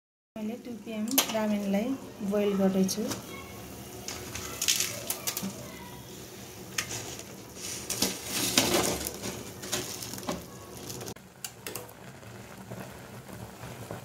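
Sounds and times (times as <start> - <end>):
noodles stirred in boiling water: 1.0 - 14.0.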